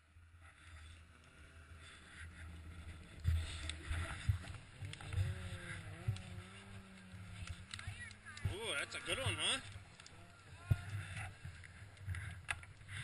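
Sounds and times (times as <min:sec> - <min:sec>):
snowmobile engine running: 0:00.5 - 0:13.0.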